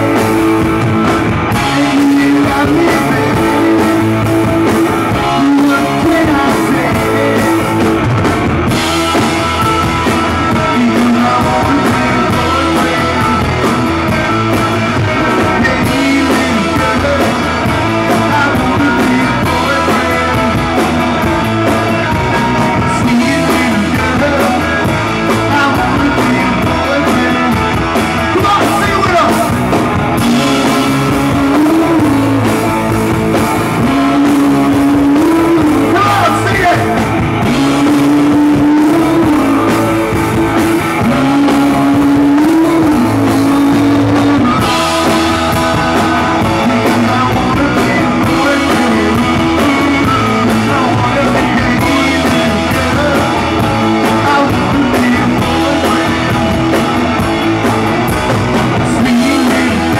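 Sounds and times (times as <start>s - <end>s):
bass guitar: 0.0s - 59.9s
drums: 0.0s - 59.9s
electric guitar: 0.0s - 59.9s
man singing lead vocal: 0.0s - 59.9s.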